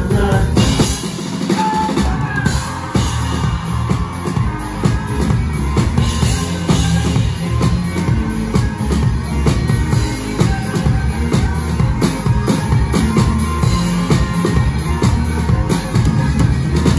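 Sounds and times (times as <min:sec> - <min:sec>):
drum kit: 0:00.0 - 0:16.9
live band playing upbeat music: 0:00.0 - 0:16.9.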